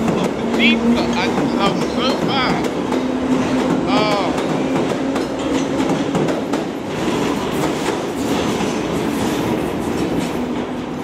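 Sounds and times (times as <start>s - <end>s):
train hum: 0.0s - 11.0s
train wheels clattering over rail joints: 0.0s - 11.0s.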